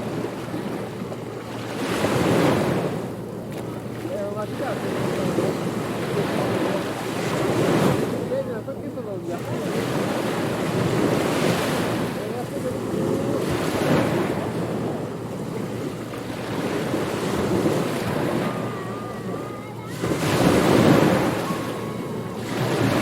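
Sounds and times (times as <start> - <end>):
waves breaking on beach: 0.0 - 23.0
wind: 0.0 - 23.0.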